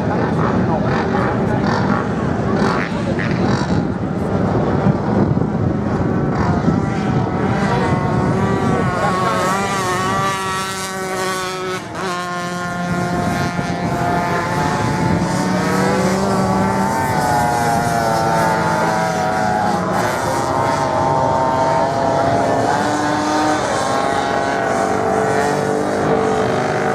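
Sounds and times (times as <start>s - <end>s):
racing motorcycle engines revving: 0.0s - 26.9s.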